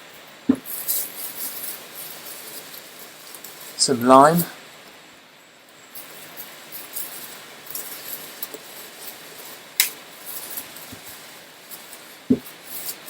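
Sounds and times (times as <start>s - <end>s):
faint rustles: 0.0s - 13.0s
utensils clinking: 0.5s - 4.5s, 5.9s - 13.0s.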